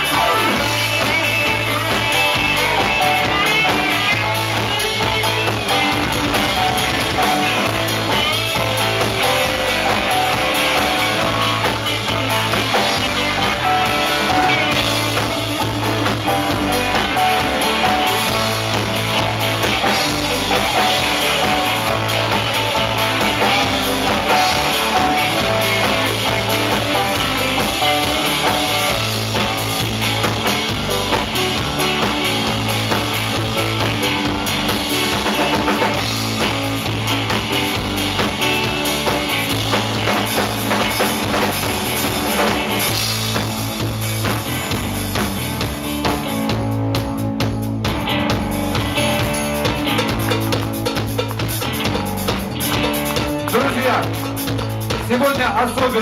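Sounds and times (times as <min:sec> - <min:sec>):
rock music: 0:00.0 - 0:56.0.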